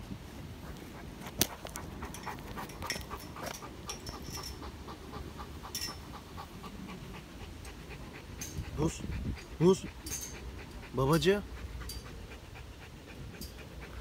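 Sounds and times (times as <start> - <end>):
dog panting: 0.6 - 14.0.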